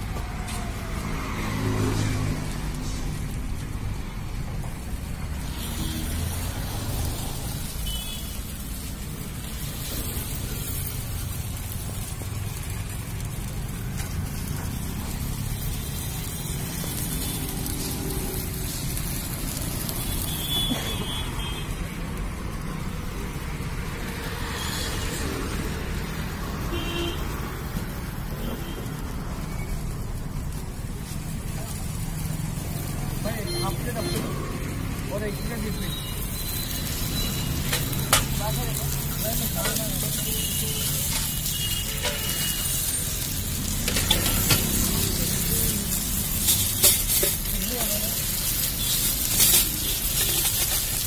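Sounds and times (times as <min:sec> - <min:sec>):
street traffic rumble: 0:00.0 - 0:51.0.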